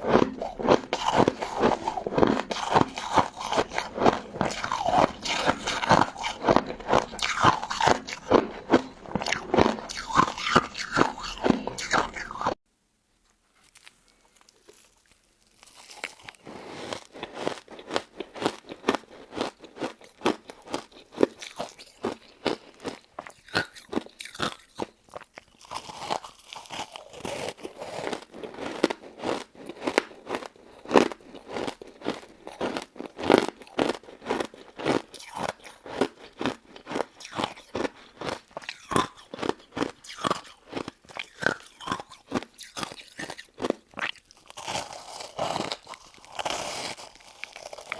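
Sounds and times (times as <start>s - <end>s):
person crunching ice dessert: 0.0s - 12.6s, 13.5s - 47.9s.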